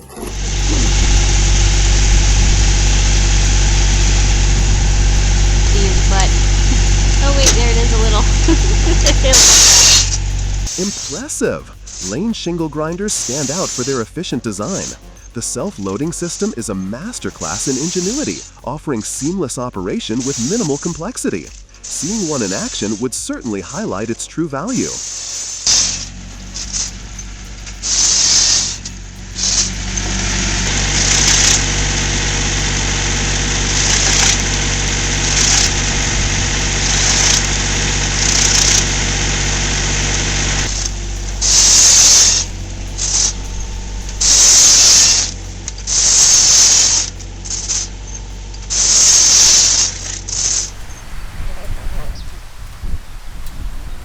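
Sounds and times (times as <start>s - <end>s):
machine engine running: 0.0s - 18.7s, 19.8s - 23.2s, 24.8s - 54.0s
hissing surges: 0.0s - 54.0s.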